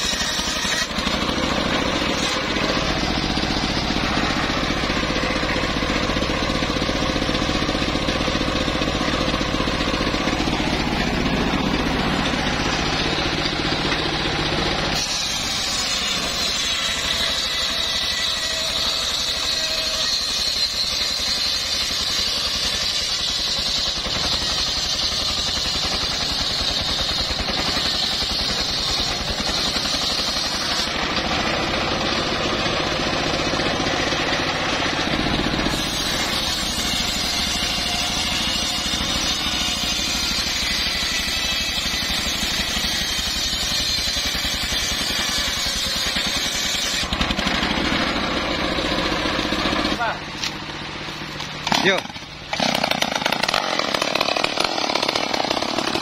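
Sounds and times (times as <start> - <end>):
circular saw blade ripping log: 0.0 - 9.3, 9.9 - 50.6, 51.2 - 56.0
sawmill engine running: 0.0 - 56.0.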